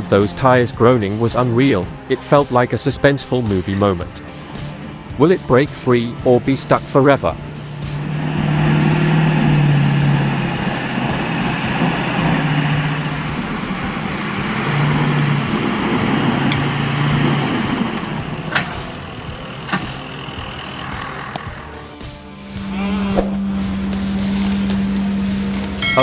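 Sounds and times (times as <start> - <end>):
heavy truck engine under load: 0.0 - 26.0
steady rushing noise: 0.0 - 26.0.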